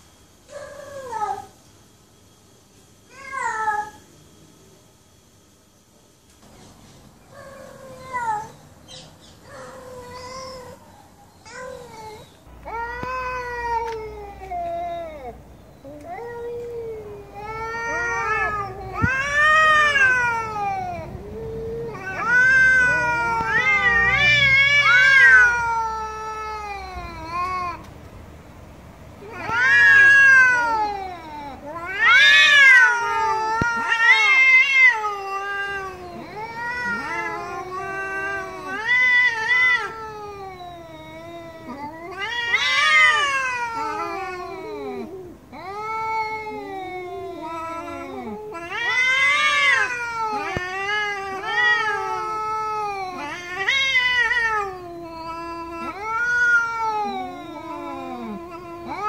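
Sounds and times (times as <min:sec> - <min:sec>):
cats yowling: 0:00.5 - 0:01.6, 0:03.1 - 0:04.1, 0:07.3 - 0:28.0, 0:29.0 - 0:59.0.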